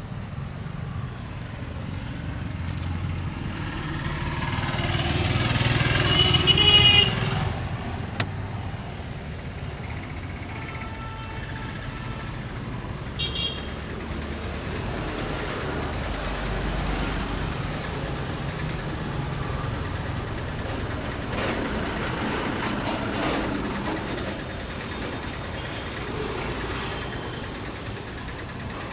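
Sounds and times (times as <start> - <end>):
passing vehicles rumble: 0.0 - 28.9.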